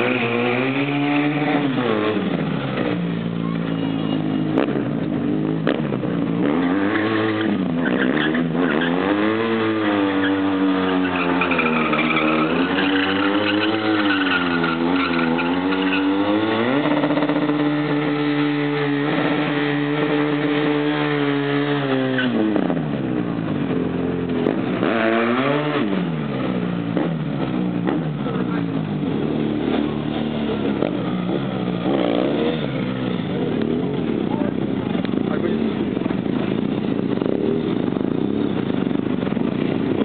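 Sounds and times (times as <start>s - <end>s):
motorcycle engine revving: 0.0s - 40.0s
rear tyre spinning: 0.0s - 40.0s.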